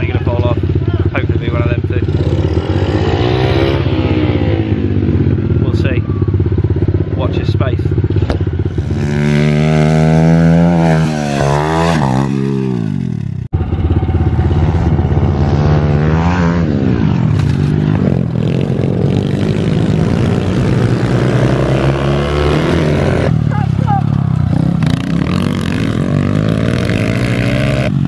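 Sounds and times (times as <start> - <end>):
minibike engine revving: 0.0 - 7.3, 7.9 - 28.0.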